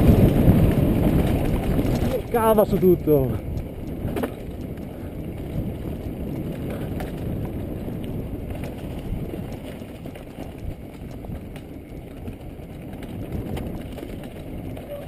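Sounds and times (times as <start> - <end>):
bike rattles and knocks: 0.0 - 15.0
rumble of tyres and wind: 0.0 - 15.0.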